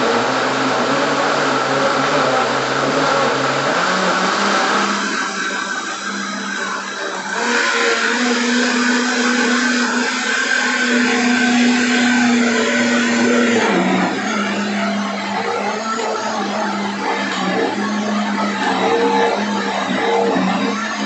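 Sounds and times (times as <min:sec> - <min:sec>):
blender motor running hard: 0:00.0 - 0:21.0.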